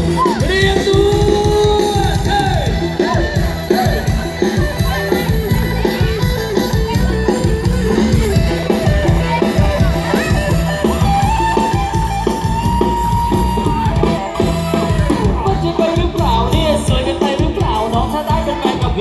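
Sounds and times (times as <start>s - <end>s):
amplified band music: 0.0s - 19.0s
electric guitar: 0.0s - 19.0s
steady drum beat: 0.0s - 19.0s.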